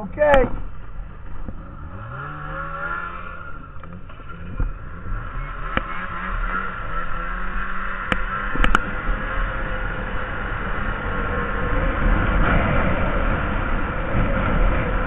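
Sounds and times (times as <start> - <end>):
snowmobile engine revving: 1.1 - 15.0.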